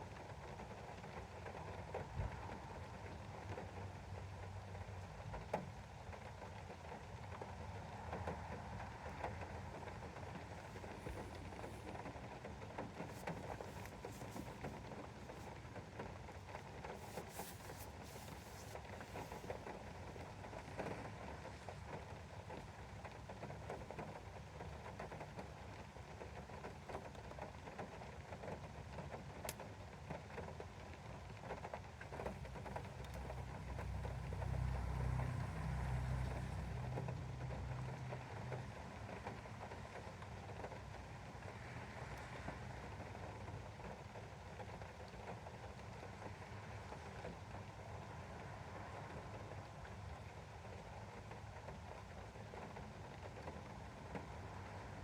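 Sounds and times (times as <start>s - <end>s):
rain pattering on a window: 0.0s - 55.0s.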